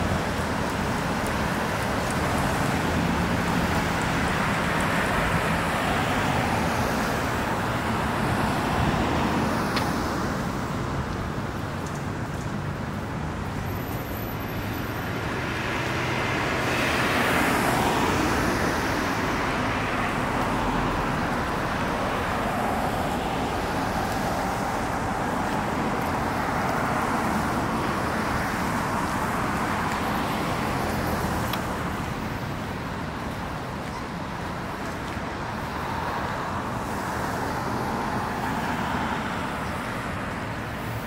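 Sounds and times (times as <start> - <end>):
cars passing by: 0.0 - 41.0.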